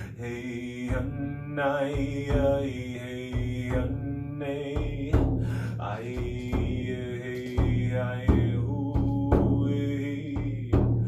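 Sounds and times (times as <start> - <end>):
voices singing a chant: 0.0 - 11.0
drum beating: 0.7 - 11.0.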